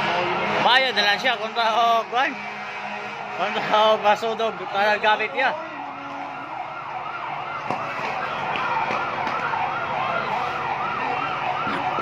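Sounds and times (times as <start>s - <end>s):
fire truck siren yelping: 0.0s - 12.0s.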